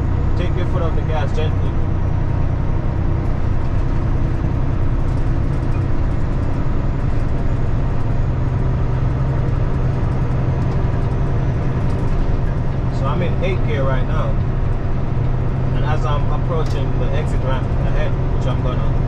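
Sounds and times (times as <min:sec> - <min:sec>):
diesel truck engine drone: 0:00.0 - 0:19.0
road noise: 0:00.0 - 0:19.0.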